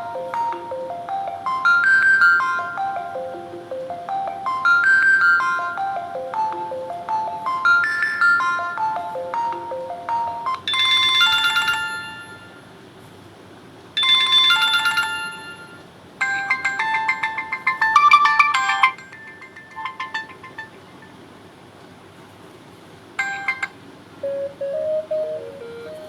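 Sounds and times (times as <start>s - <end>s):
electronic ringtone chimes: 0.0s - 12.6s, 14.0s - 21.2s, 23.2s - 26.0s
quick electronic ringtone notes: 0.0s - 12.6s, 14.0s - 21.2s, 23.2s - 26.0s.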